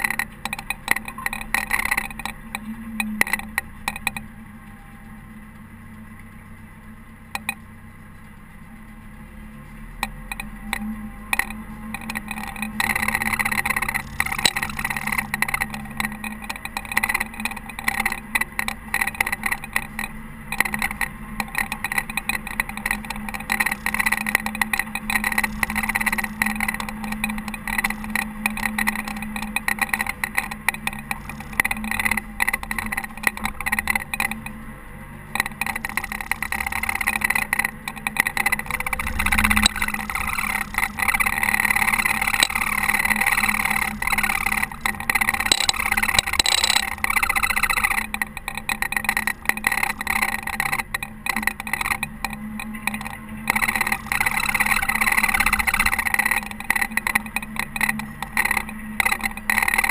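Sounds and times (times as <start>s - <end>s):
busy rattling: 0.0s - 4.4s, 9.9s - 59.9s
diesel engine running: 0.0s - 59.9s.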